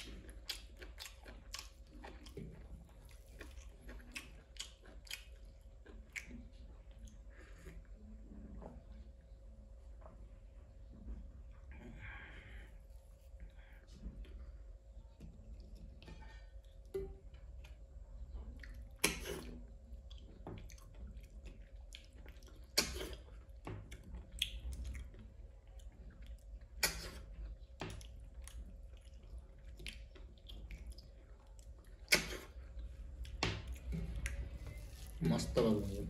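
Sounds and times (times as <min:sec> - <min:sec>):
person chewing rice: 0:00.0 - 0:08.6, 0:11.3 - 0:36.0
faint steady hum: 0:00.0 - 0:36.0.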